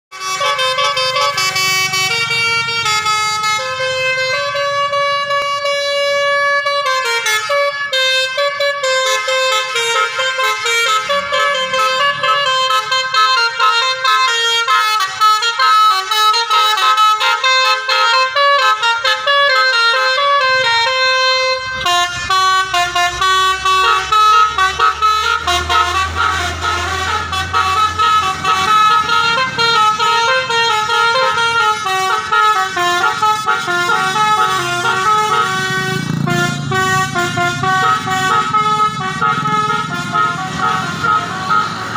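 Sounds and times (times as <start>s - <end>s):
musical bus horn melody: 0.1s - 41.9s.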